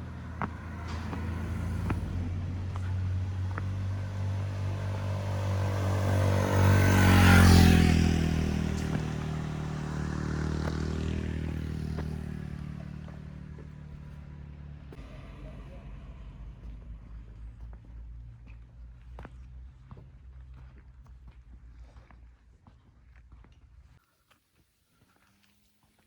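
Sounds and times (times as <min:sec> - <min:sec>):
motor vehicle passing by: 0:00.0 - 0:22.1.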